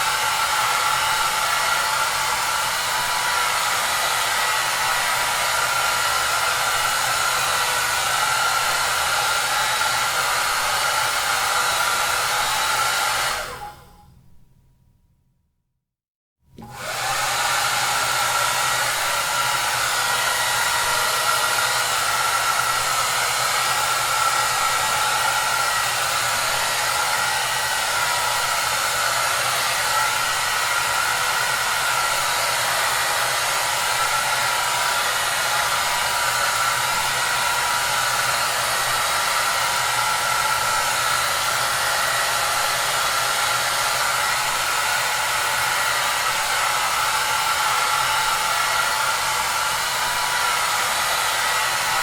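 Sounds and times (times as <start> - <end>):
hair dryer blowing air: 0.0 - 14.0, 16.6 - 52.0.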